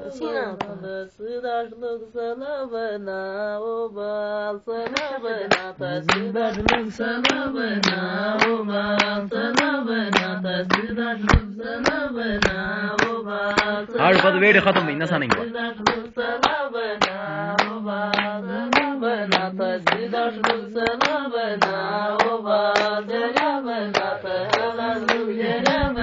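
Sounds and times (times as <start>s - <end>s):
woman singing unaccompanied: 0.0s - 26.0s
rhythmic hand-clapping: 0.4s - 1.0s, 4.8s - 26.0s.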